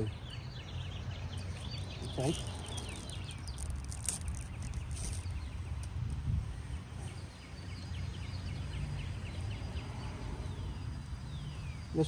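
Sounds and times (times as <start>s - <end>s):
bird chirping: 0.0s - 12.0s
low outdoor rumble: 0.0s - 12.0s.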